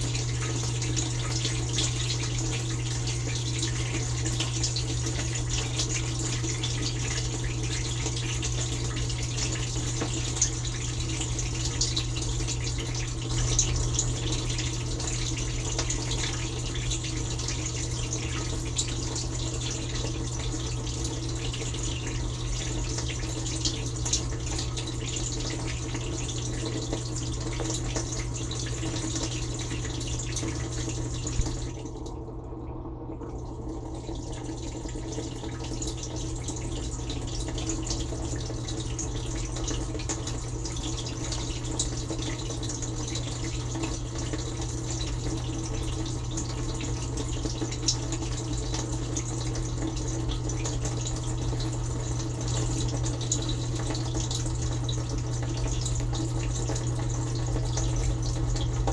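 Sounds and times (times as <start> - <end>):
dishwasher pump hum: 0.0 - 58.9.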